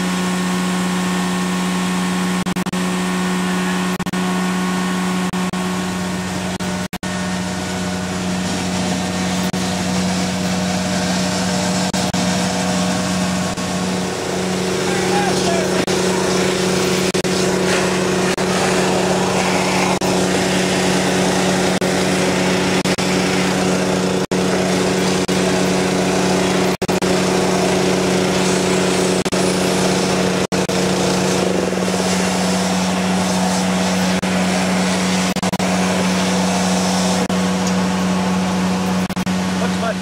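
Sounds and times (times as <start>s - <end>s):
vacuum unit engine hum: 0.0s - 40.0s.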